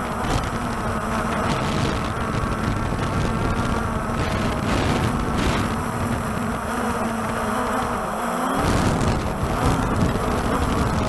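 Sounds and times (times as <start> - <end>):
drone rotors buzzing: 0.0 - 11.0
wind rumbling on microphone: 0.0 - 11.0.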